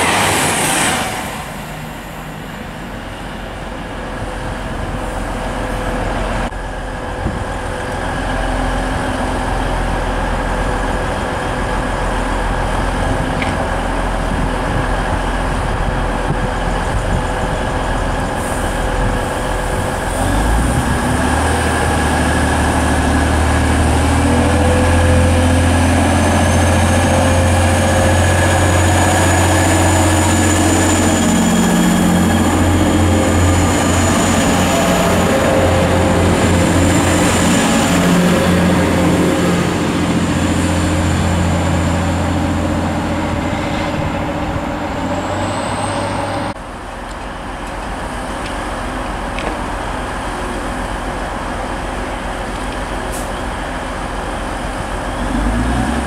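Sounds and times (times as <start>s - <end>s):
diesel train engines droning: 0.0s - 56.0s.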